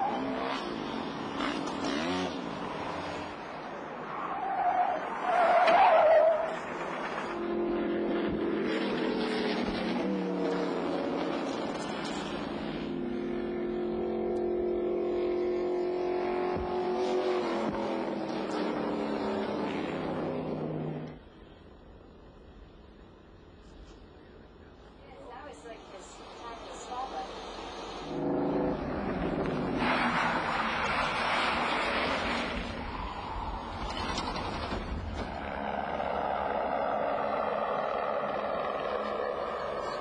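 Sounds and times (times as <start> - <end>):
car engines running: 0.0 - 40.0.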